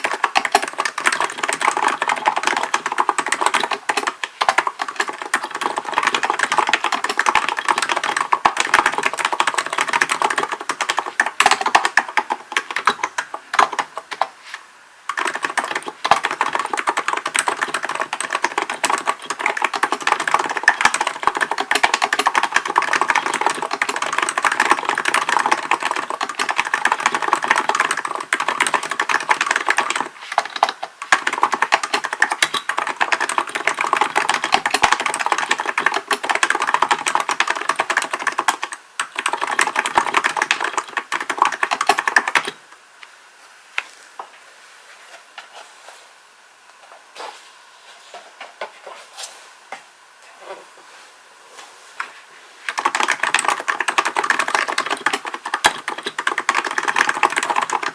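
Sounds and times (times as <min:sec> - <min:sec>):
fast keyboard typing: 0:00.0 - 0:14.3, 0:15.1 - 0:42.6, 0:52.7 - 0:57.9.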